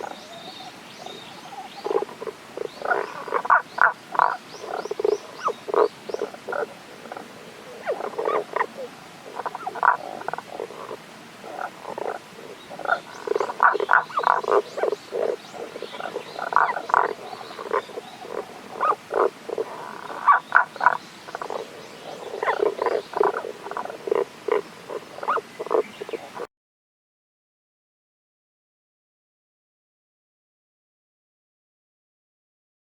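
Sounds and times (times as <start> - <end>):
frogs croaking: 0.0 - 26.5.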